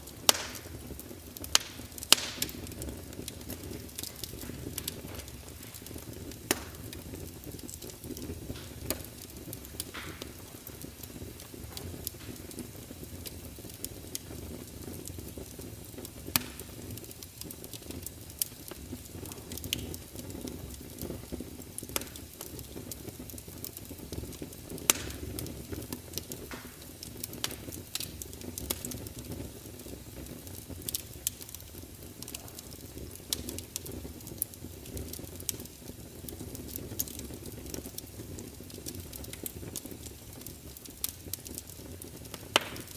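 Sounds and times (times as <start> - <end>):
fire pops and snaps: 0.0 - 42.9
wood fire crackling: 0.0 - 42.9.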